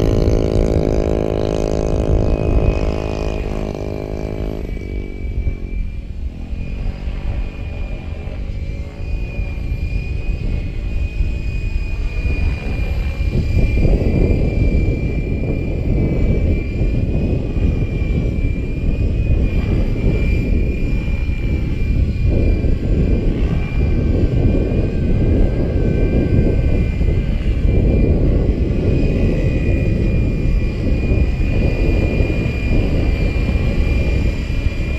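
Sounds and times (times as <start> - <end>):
rc helicopter motor whine: 0.0 - 34.9
wind buffeting microphone: 0.0 - 34.9.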